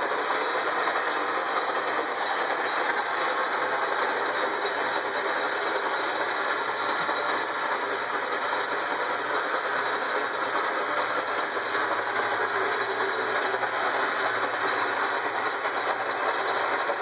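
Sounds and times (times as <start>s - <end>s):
machinery running: 0.0s - 17.0s.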